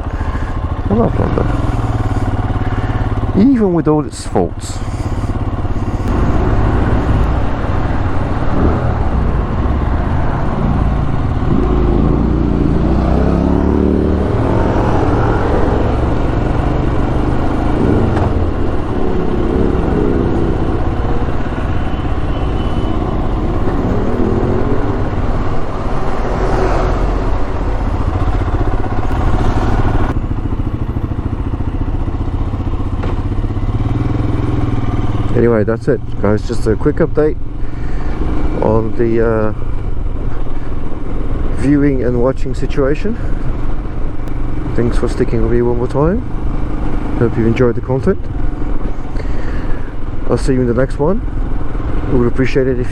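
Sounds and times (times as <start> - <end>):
motorcycle engine accelerating: 0.0 - 52.9
wind and road noise: 0.0 - 52.9.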